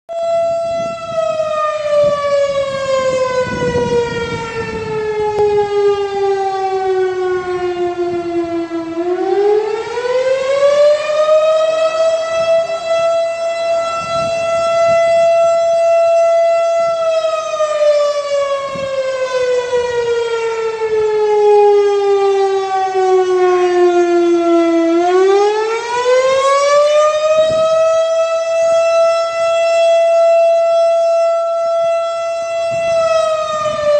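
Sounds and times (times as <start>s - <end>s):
siren wailing: 0.1s - 33.9s.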